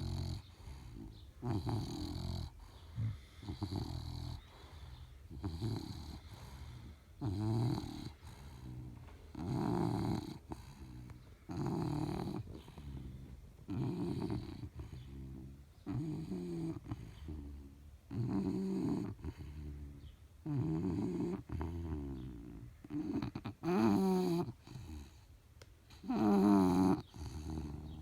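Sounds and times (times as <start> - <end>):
dog snoring: 0.0 - 25.3, 25.9 - 28.0.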